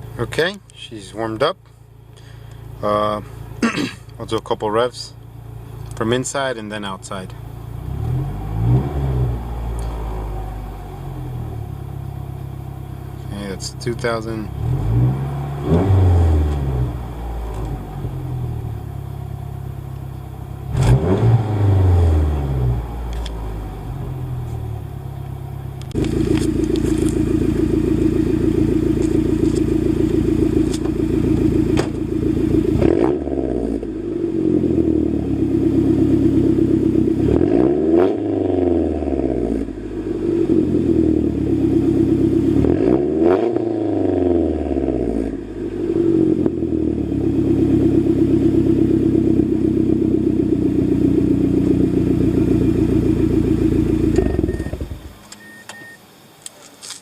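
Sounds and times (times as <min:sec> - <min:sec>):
car engine revving: 0:05.5 - 0:55.2.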